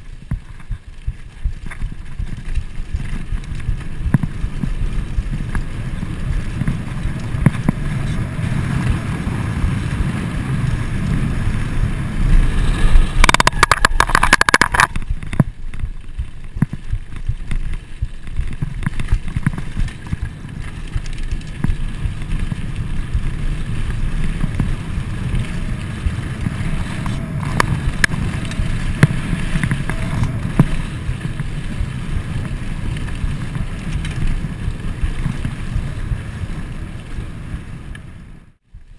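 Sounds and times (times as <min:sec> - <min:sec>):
loud clatter: 0:00.0 - 0:35.6
bike frame rattling: 0:00.0 - 0:37.9
bike tyres on dirt: 0:00.0 - 0:38.9
wind buffeting microphone: 0:00.0 - 0:38.9.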